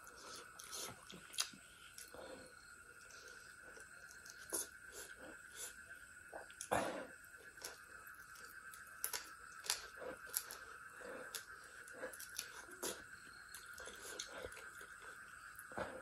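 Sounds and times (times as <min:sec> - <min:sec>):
person chewing food: 0:00.0 - 0:05.8, 0:07.4 - 0:16.0
faint high-pitched hum: 0:00.0 - 0:16.0.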